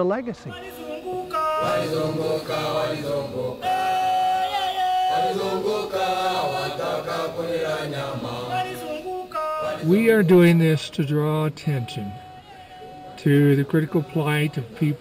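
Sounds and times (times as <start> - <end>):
choir singing long notes: 0.6 - 10.8, 11.5 - 15.0.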